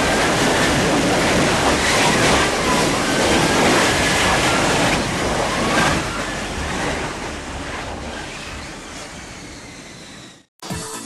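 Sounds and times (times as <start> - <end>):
jet engine roaring: 0.0 - 10.5.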